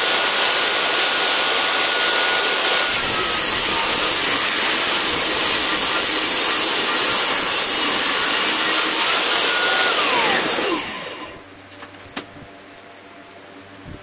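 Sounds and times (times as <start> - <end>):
saw blade winding down whine: 0.0 - 11.4
table saw ripping wood: 0.0 - 11.4.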